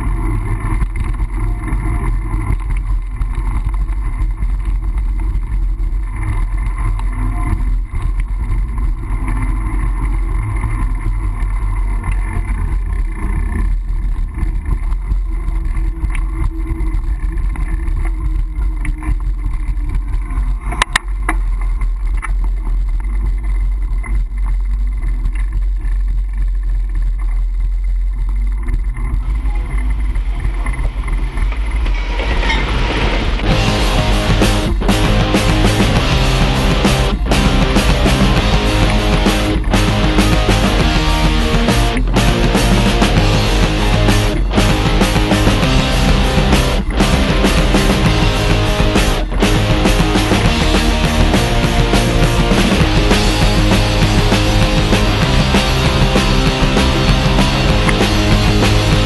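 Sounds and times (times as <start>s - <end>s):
bike riding rumble: 0.0s - 59.0s
street noise: 0.0s - 59.0s.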